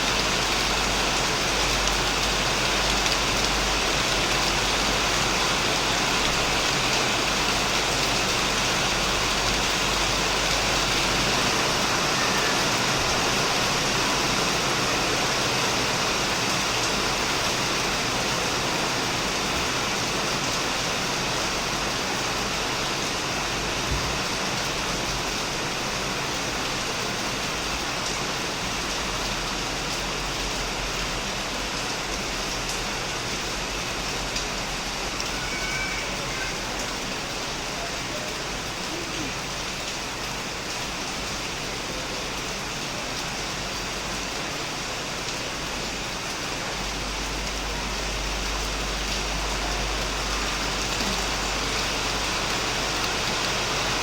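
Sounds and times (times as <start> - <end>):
heavy rain on a shed roof: 0.0 - 54.0.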